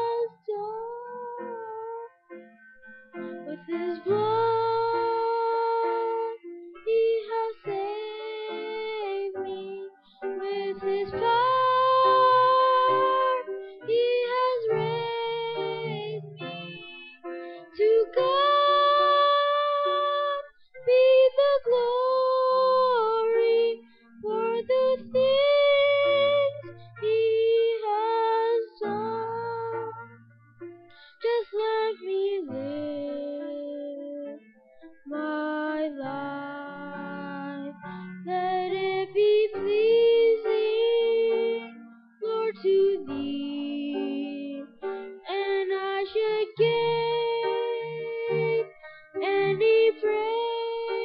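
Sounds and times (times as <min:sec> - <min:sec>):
boy singing a hymn: 0:00.0 - 0:02.1, 0:03.5 - 0:16.4, 0:17.8 - 0:30.0, 0:31.2 - 0:34.4, 0:35.1 - 0:51.0.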